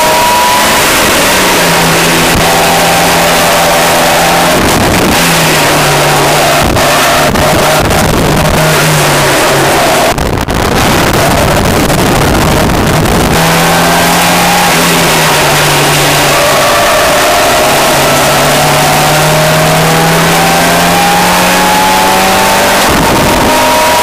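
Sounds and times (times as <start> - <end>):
car engine under hard throttle: 0.0 - 24.0
road and wind noise: 0.0 - 24.0.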